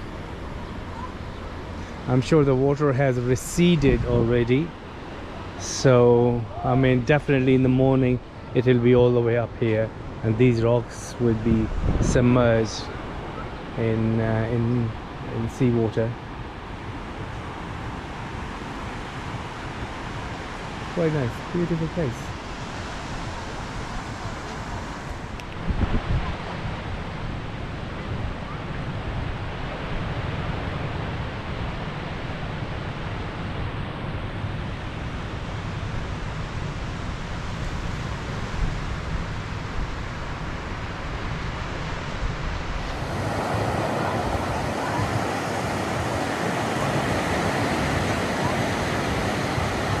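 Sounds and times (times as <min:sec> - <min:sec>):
surf washing on sandy beach: 0:00.0 - 0:50.0
wind gusting on microphone: 0:00.0 - 0:50.0.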